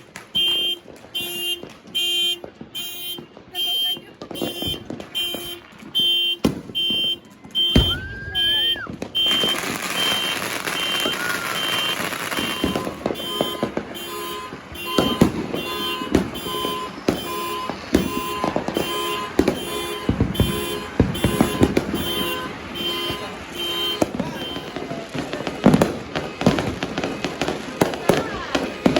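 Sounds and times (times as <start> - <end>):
crackling hiss of fireworks: 0.0 - 28.9
firework bangs and pops: 0.0 - 28.9
whistling firework: 0.1 - 28.9
car alarm beeping: 0.4 - 28.9.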